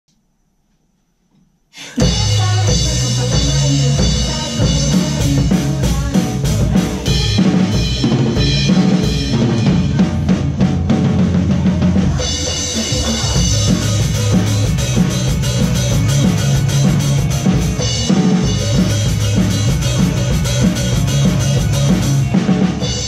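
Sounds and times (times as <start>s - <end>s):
recorded pop song: 1.8s - 23.0s
acoustic drum kit playing: 2.0s - 23.0s.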